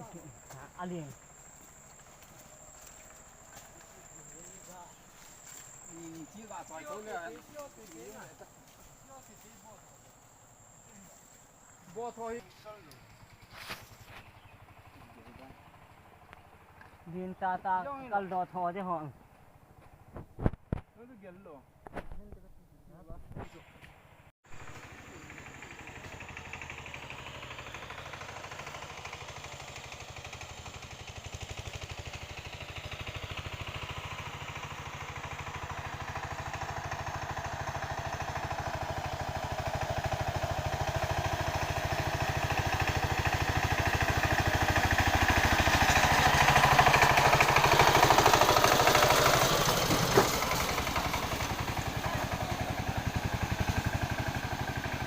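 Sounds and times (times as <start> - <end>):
small engine running: 0.0 - 21.4, 24.5 - 55.0.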